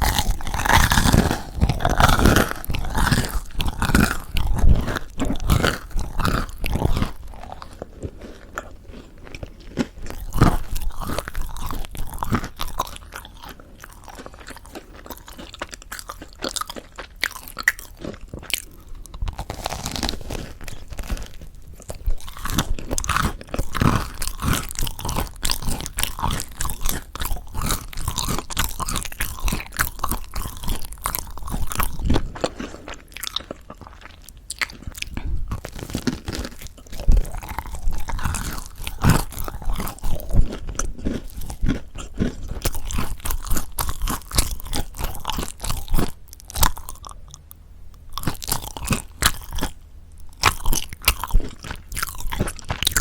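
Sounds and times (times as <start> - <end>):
crispy bread crunching: 0.0 - 53.0.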